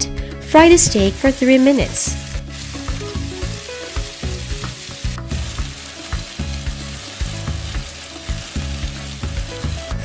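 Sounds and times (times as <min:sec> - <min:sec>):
background music: 0:00.0 - 0:10.0
steaks sizzling in a pan: 0:01.0 - 0:10.0.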